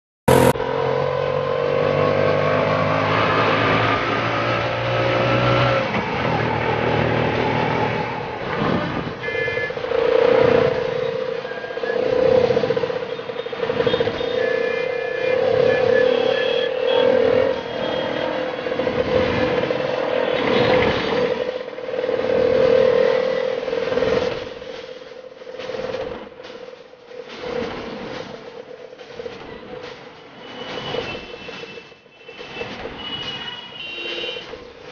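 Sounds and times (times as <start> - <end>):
auto-rickshaw engine: 0.3 - 34.9.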